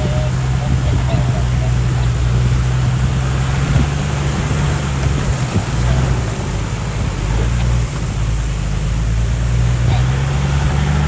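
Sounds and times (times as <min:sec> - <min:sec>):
vehicle engine low drone: 0:00.0 - 0:11.0.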